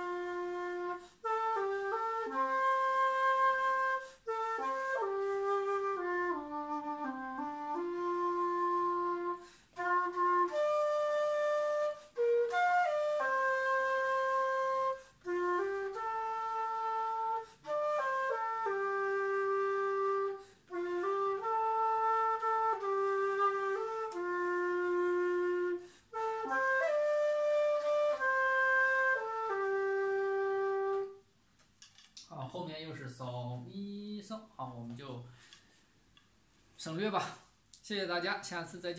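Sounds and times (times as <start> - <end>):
bamboo flute slow melody: 0.0 - 31.3.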